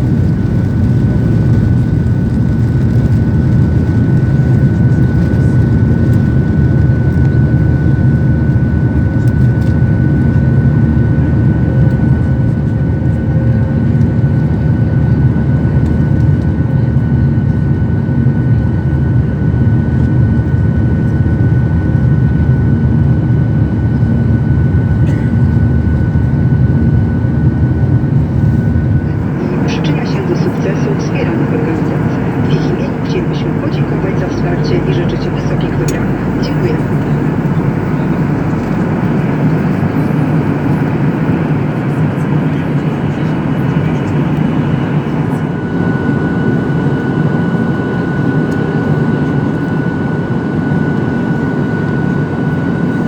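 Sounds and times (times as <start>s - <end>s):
jet engine cabin rumble: 0.0s - 53.0s
thin steady engine whine: 0.0s - 53.0s.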